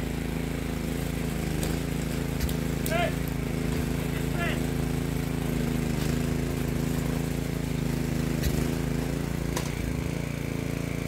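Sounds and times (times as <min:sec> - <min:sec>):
rototiller engine running: 0:00.0 - 0:11.0.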